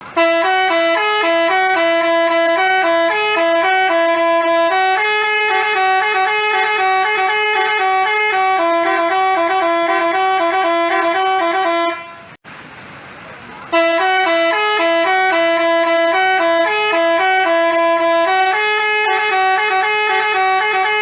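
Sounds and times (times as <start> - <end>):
musical bus horn melody: 0.0 - 12.4, 13.7 - 21.0.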